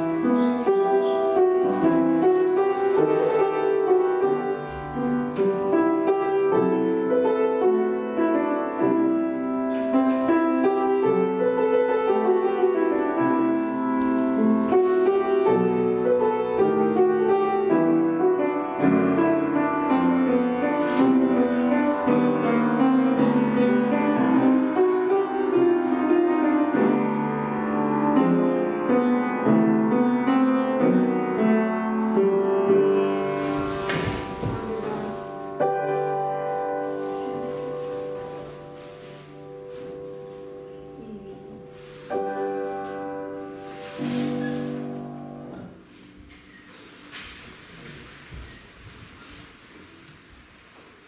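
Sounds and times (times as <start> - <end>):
classical piano accompaniment: 0.0 - 51.0.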